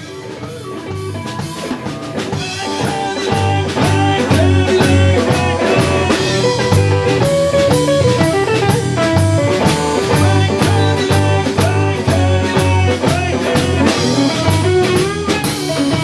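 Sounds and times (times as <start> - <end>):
bass guitar: 0.0 - 16.0
drum kit steady beat: 0.0 - 16.0
electric guitar lead: 0.0 - 16.0.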